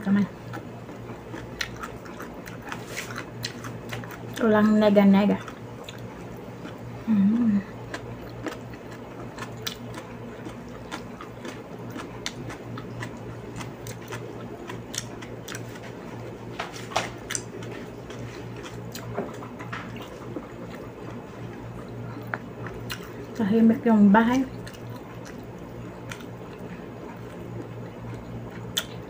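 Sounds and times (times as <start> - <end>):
low hum: 0.0 - 29.0
person chewing food: 0.4 - 4.5, 5.4 - 23.4, 24.5 - 29.0.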